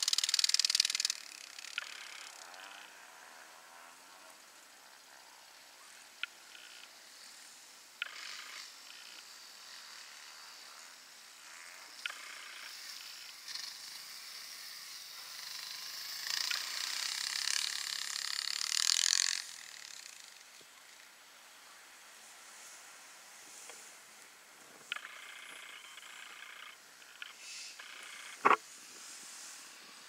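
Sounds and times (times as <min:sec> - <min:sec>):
off-road motorcycle engine: 0:00.0 - 0:22.0, 0:23.6 - 0:30.0.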